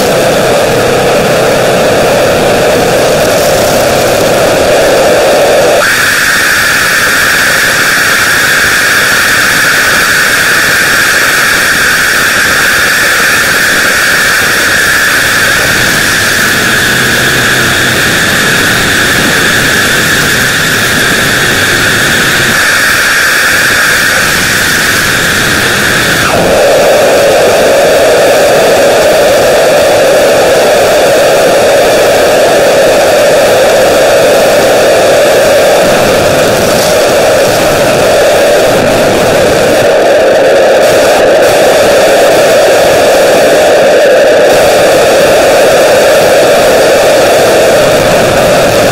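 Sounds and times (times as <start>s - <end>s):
loud steady hissing noise: 0.0s - 48.9s.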